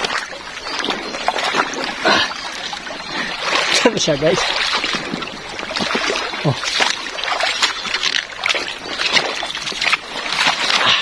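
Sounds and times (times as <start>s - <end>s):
flowing river water: 0.0s - 11.0s
water splashing: 0.0s - 11.0s.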